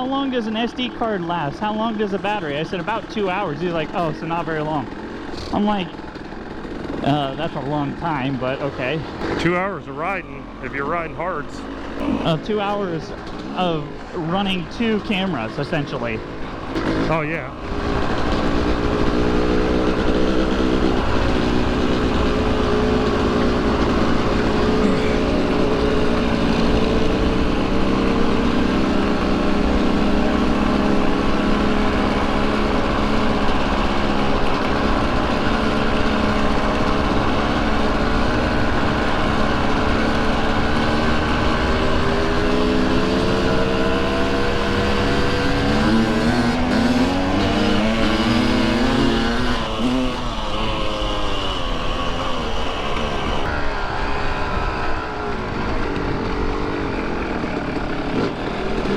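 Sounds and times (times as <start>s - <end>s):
two-stroke motorcycle engine: 0.0s - 58.9s.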